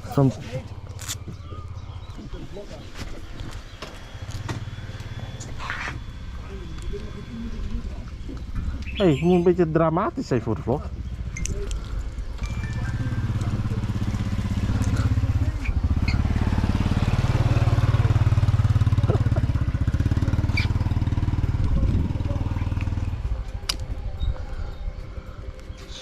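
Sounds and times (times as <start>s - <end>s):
motorbike engine running: 0.0s - 26.0s.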